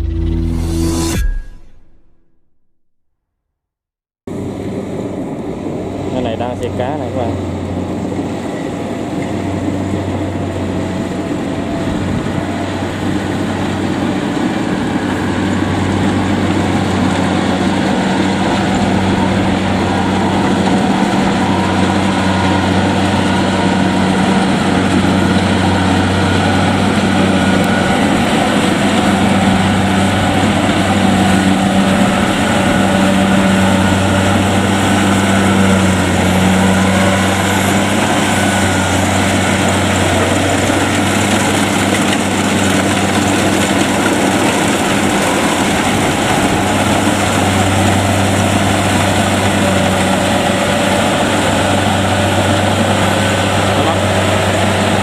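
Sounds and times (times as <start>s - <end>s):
combine harvester diesel engine: 4.3s - 55.0s.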